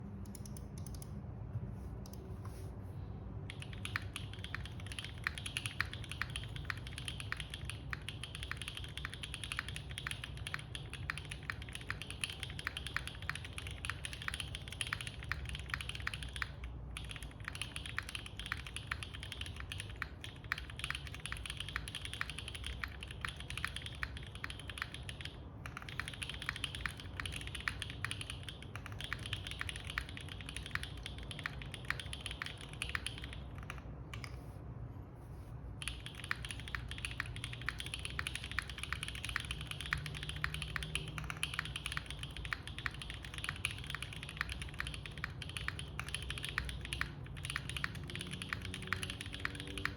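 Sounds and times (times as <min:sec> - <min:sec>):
mechanical keyboard typing: 0:00.2 - 0:01.1, 0:03.4 - 0:34.5, 0:35.8 - 0:49.9.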